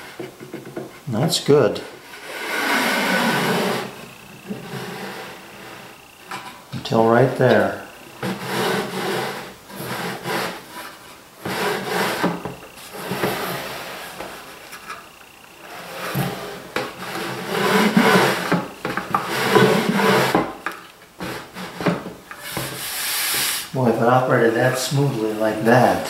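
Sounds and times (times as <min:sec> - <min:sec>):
wooden lid sliding in grooves: 0:00.0 - 0:26.0.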